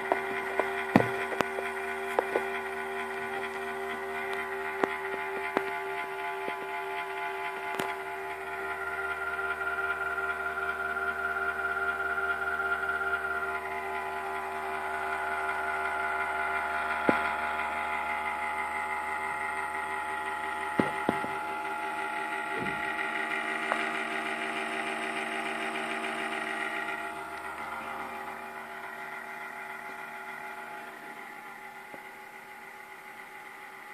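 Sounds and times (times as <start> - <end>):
power supply humming: 0.0 - 33.9.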